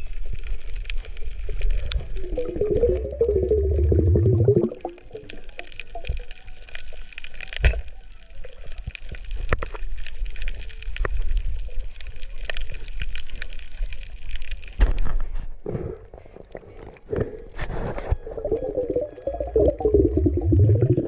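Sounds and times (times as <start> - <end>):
dense crackle of clicks: 0.0 - 21.0
underwater hiss and rumble: 0.0 - 21.0.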